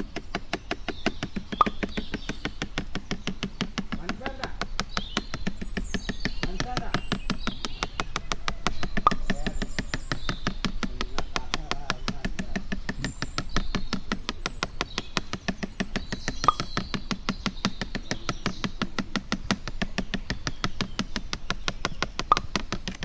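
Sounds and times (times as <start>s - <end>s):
mallet tapping rapidly: 0.0s - 23.0s.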